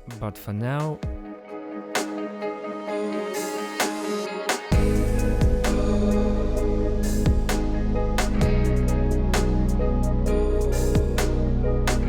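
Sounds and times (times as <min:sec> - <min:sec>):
soft instrumental background music: 0:00.0 - 0:12.0.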